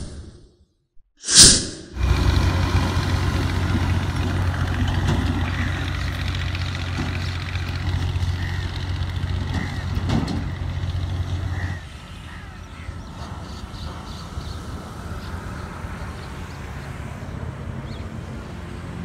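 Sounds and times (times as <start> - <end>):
engine rumble: 2.0 - 19.0.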